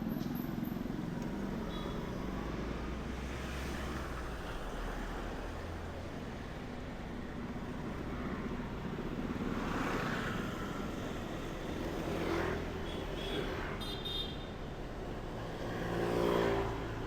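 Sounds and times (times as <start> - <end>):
motorbikes and cars passing: 0.0 - 17.0.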